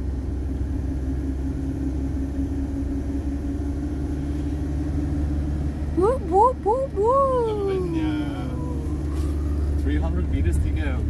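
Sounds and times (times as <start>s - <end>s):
engine drone: 0.0s - 11.0s
road noise rumble: 0.0s - 11.0s.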